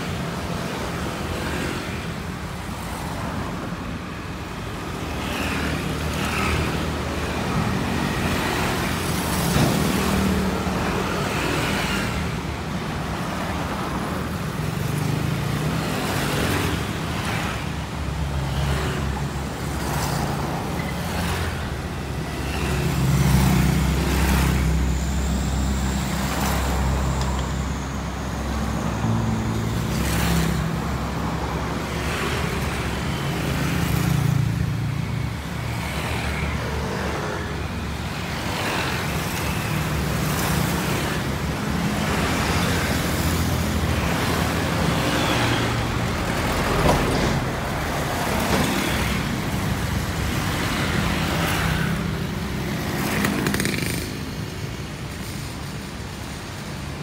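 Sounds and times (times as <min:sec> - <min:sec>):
scooters and cars passing: 0:00.0 - 0:57.0.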